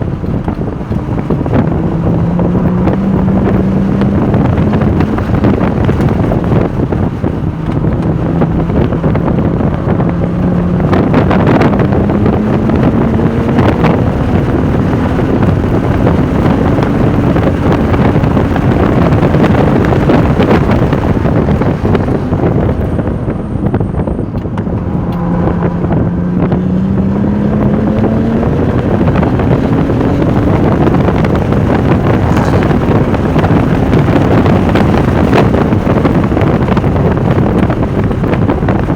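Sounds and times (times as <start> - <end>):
sports car engine accelerating: 0.0 - 38.9
wind rush: 0.0 - 38.9.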